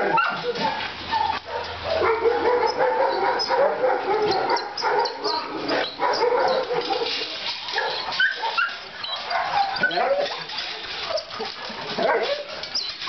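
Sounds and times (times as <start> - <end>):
dogs barking yelping and whining: 0.0 - 13.0.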